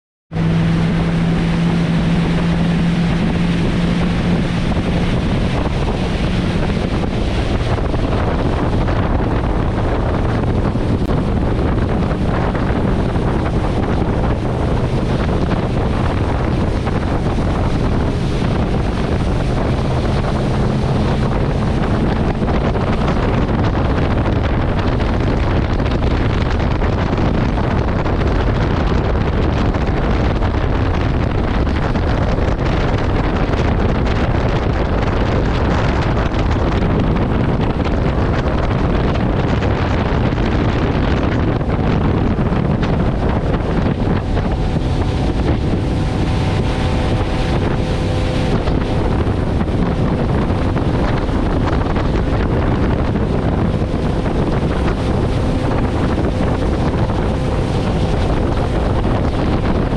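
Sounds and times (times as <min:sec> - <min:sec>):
motorboat engine hum: 0:00.3 - 0:59.9
water rushing along hull: 0:00.3 - 0:59.9
wind buffeting microphone: 0:00.3 - 0:59.9.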